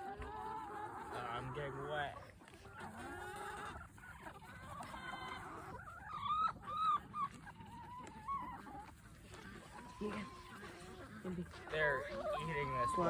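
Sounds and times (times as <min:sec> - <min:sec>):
chickens squawking: 0:00.0 - 0:13.0
wavering chicken trill: 0:00.0 - 0:13.0.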